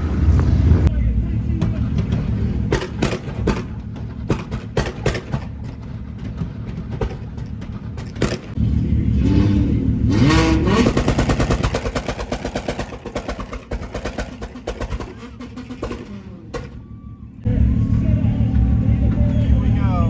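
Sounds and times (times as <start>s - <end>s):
car engine popping and banging: 0.0s - 20.0s.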